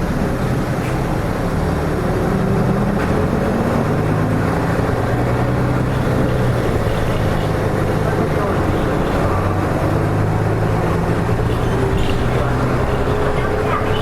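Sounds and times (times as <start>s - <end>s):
bus diesel engine drone: 0.0s - 14.0s
road noise: 0.0s - 14.0s.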